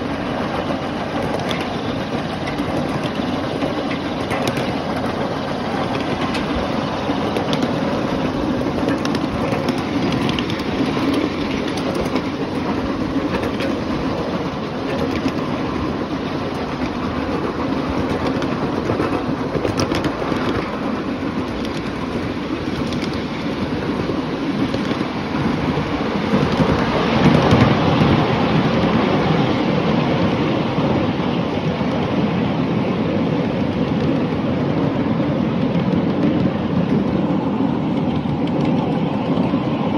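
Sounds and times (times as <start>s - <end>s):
miniature train rumbling on rails: 0.0s - 39.9s.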